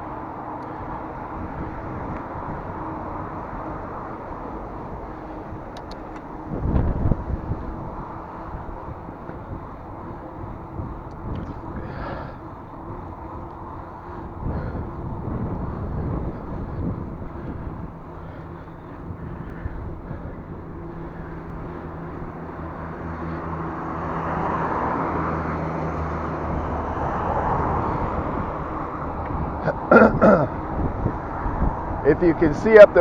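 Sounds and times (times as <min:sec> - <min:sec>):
motor vehicle engine hum: 0:00.0 - 0:33.0
tyre noise of passing vehicle: 0:00.0 - 0:33.0.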